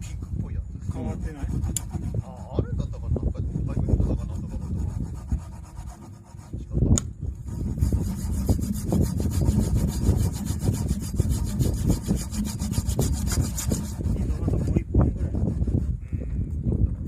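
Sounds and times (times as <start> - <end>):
saw rasping through log: 0.0 - 2.6, 3.5 - 6.7, 7.4 - 16.0.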